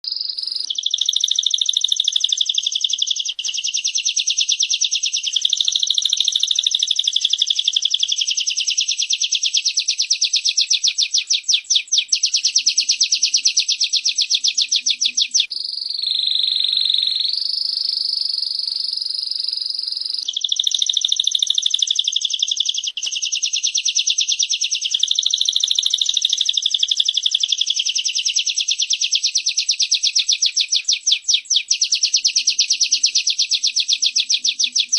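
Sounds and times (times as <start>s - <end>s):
birds chattering trill: 0.0s - 34.9s
smooth steady bird trill: 0.0s - 34.9s.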